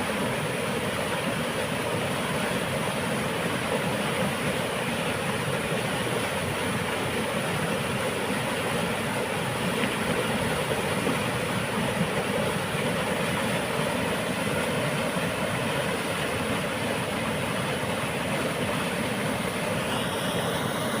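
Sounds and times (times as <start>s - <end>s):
water rushing through dam: 0.0s - 21.0s.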